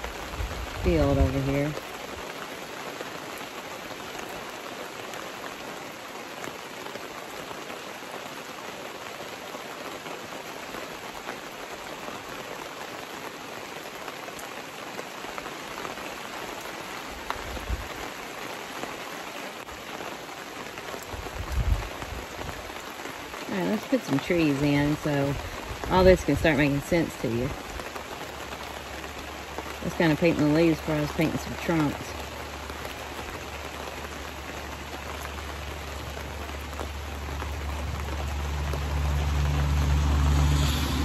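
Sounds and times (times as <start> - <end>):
rain pattering on a tent: 0.0 - 41.0.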